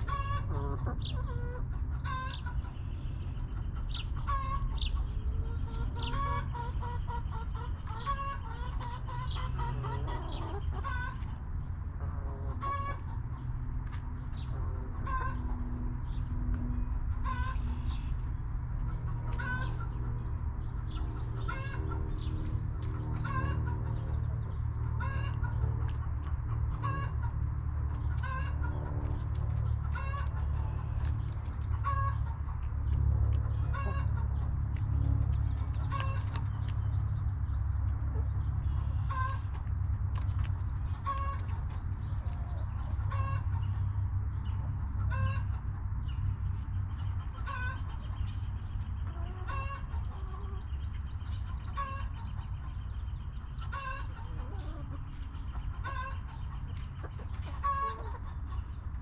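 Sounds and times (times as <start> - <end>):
hens clucking: 0.0 - 59.0.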